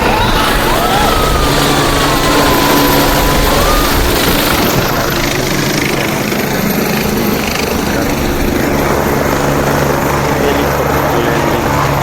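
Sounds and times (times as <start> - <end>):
aircraft engine hum: 0.0 - 12.0
aircraft rushing noise: 0.0 - 12.0.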